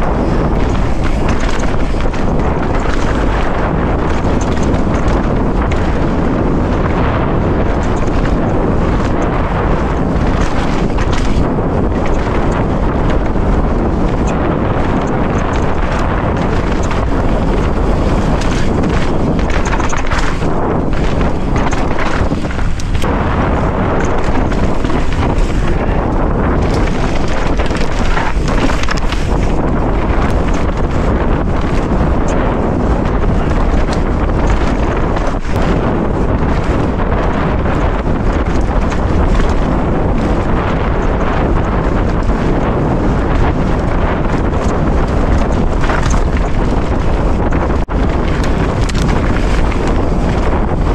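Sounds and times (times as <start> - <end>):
bike rattling over bumps: 0.0 - 50.9
short clatters: 0.0 - 50.9
tyres rumbling on dirt and rock: 0.0 - 50.9
wind buffeting microphone: 0.0 - 50.9.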